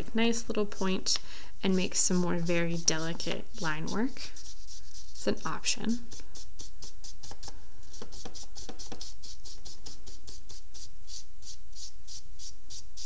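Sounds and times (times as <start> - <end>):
charcoal scratching on paper: 1.6 - 13.0.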